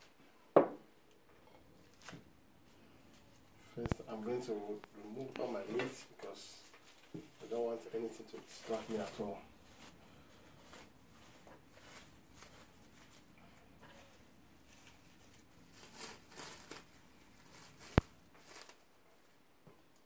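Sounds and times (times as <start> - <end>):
plastic wrap crinkling: 3.1 - 19.4.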